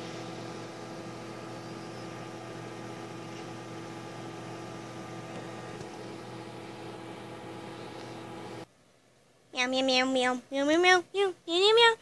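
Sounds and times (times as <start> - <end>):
microwave oven humming: 0.0 - 11.9.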